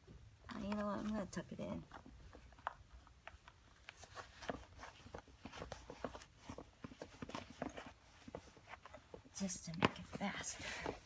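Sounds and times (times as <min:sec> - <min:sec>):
laces rustling and clicking: 0:00.0 - 0:11.0.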